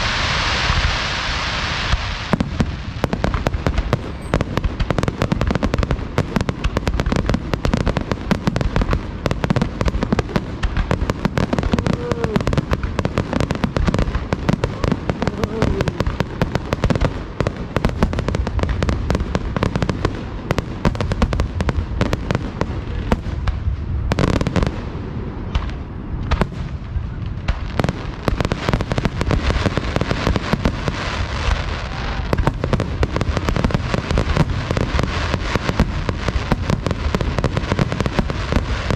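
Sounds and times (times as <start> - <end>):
fireworks bursting: 0.0 - 38.9
hissing crackle: 0.0 - 38.9.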